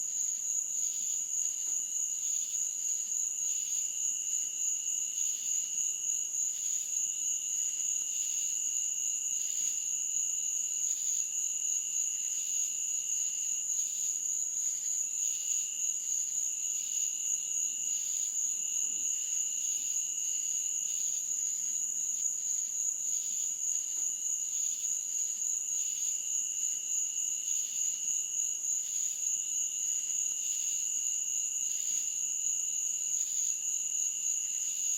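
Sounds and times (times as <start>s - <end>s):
high continuous insect trill: 0.0s - 34.9s
lower pulsing insect chorus: 0.0s - 34.9s.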